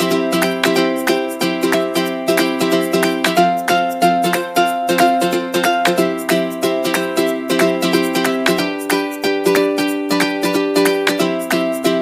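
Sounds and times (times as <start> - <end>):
plucked string instrument: 0.0 - 12.0.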